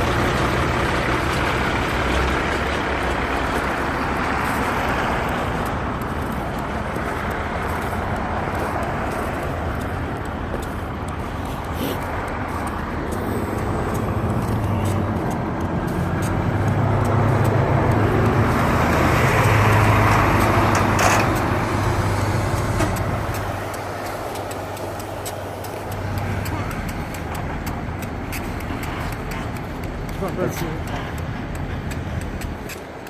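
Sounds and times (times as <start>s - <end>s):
road noise: 0.0s - 33.0s
vehicle engine hum: 0.0s - 33.0s.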